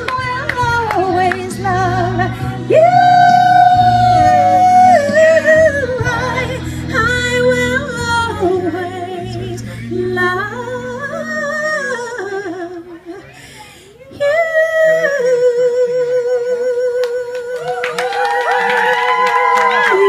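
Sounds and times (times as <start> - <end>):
woman singing into microphone: 0.0 - 17.9, 19.6 - 20.0.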